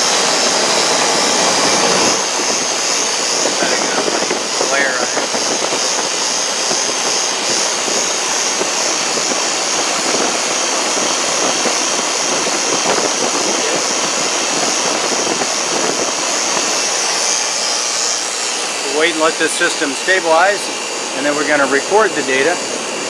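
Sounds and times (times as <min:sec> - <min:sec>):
air conditioner fan blowing: 0:00.0 - 0:23.0.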